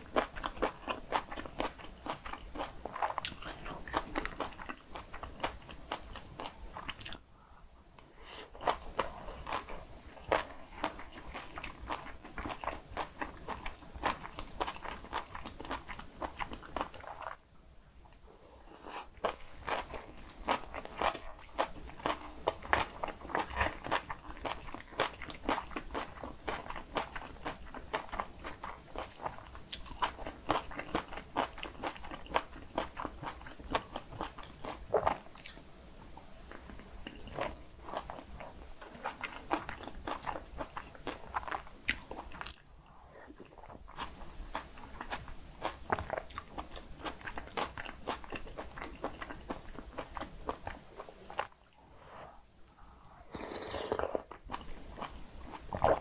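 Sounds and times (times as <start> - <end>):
person chewing crunchy food: 0.0 - 7.2, 8.5 - 17.4, 18.8 - 51.6, 52.3 - 56.0.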